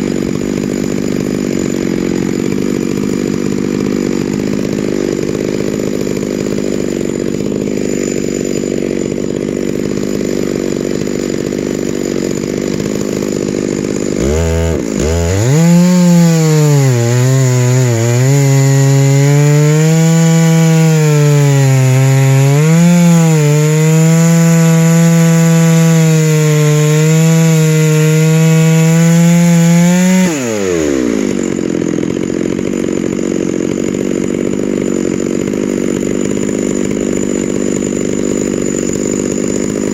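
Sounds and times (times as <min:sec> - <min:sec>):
chainsaw ripping log: 0:00.0 - 0:39.9.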